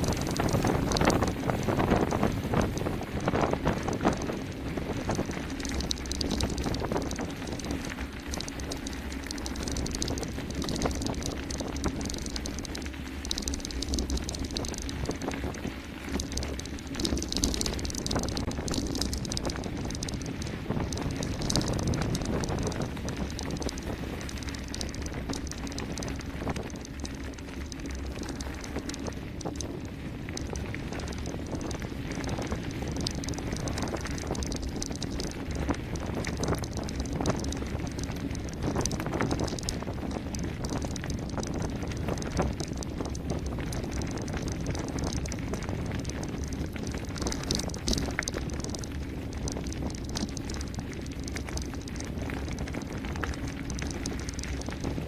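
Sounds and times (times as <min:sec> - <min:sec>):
bike rattling clicks: 0:00.0 - 0:55.0
tyres crunching over gravel: 0:00.0 - 0:55.0
wind buffeting microphone: 0:00.0 - 0:55.0.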